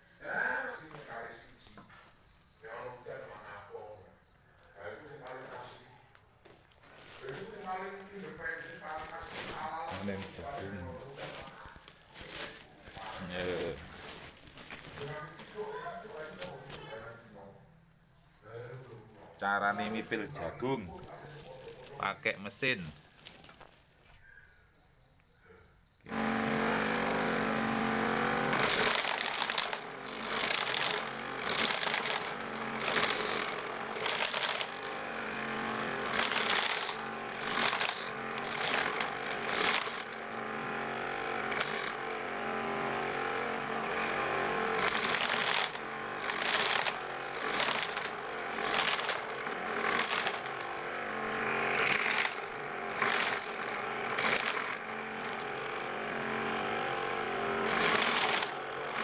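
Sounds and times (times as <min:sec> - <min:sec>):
corn sheller motor humming: 0:04.8 - 0:17.1, 0:19.4 - 0:22.8, 0:26.0 - 0:59.0.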